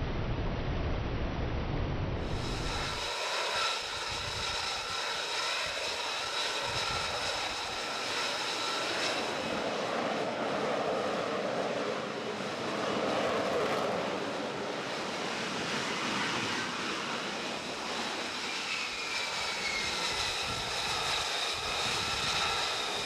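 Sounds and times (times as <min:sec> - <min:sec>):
jet engine whine and roar: 0:00.0 - 0:23.0.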